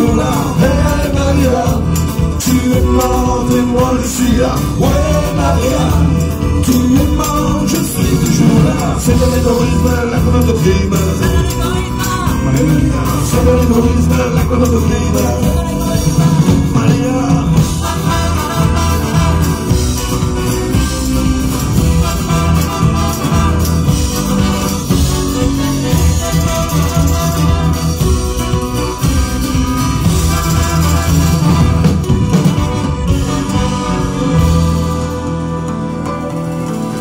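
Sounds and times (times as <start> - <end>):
live band with brass: 0.0 - 37.0.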